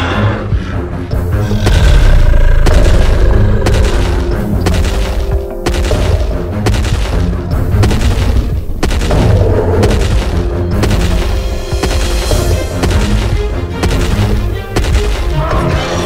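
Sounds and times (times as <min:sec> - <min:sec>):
dramatic music: 0:00.0 - 0:16.0.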